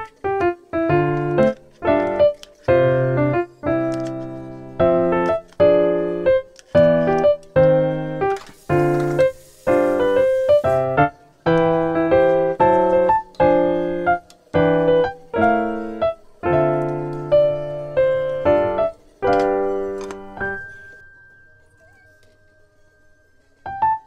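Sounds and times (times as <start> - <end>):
piano playing short chords: 0.0 - 22.2.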